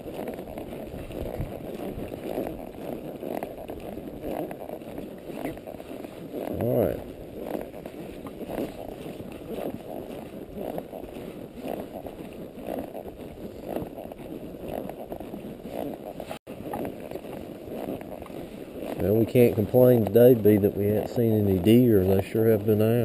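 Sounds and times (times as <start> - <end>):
horse walking: 0.0 - 23.0
wind rumbling on microphone: 0.0 - 23.0.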